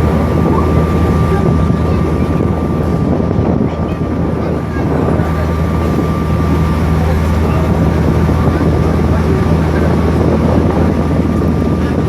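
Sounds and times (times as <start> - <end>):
boat engine droning: 0.0 - 12.0
high whine: 0.0 - 12.0
water noise: 0.0 - 12.0
wind: 0.0 - 12.0.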